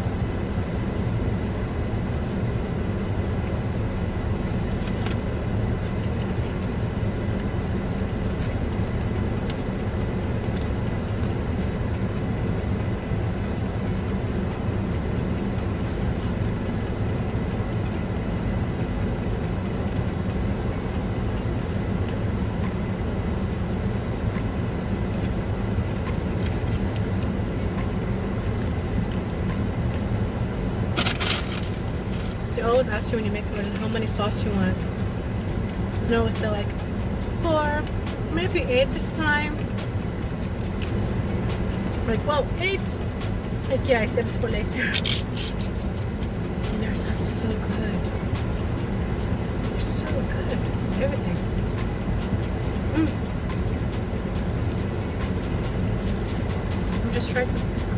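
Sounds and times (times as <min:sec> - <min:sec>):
car engine idling hum: 0:00.0 - 0:57.9
thin steady whine: 0:00.0 - 0:57.9.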